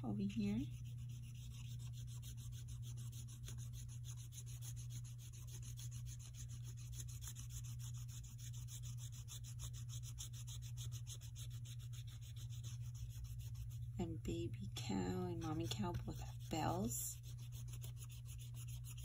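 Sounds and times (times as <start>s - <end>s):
brush tip scrubbing on paper: 0.0s - 14.2s, 14.8s - 19.0s
steady low hum: 0.0s - 19.0s.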